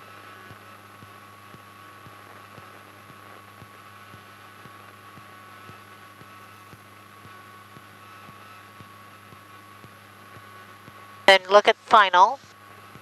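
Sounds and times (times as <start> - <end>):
cockpit audio hum and hiss: 0.0 - 13.0
faint steady tones: 0.0 - 13.0.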